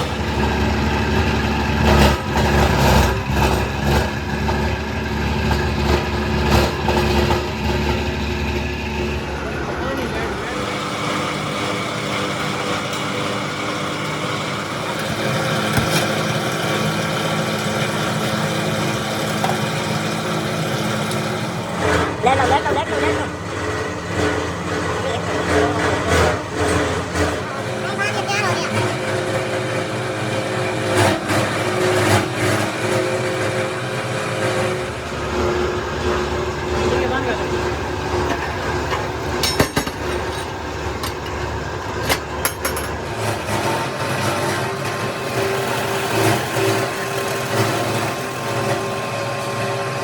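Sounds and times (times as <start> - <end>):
factory machinery humming: 0.0 - 50.0.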